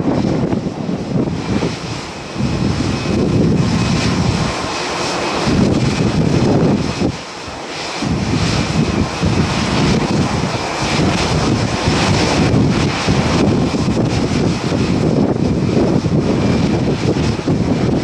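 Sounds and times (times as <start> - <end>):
jet engine whine: 0.0 - 18.0
wind buffeting microphone: 0.0 - 18.0.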